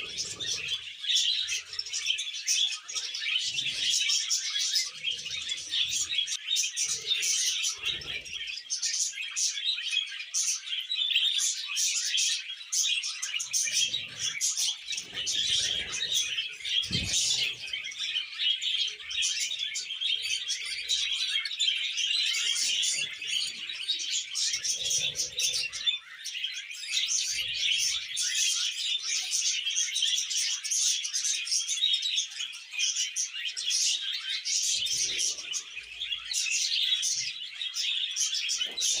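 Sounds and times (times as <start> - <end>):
budgerigars chattering and warbling: 0.0 - 39.0.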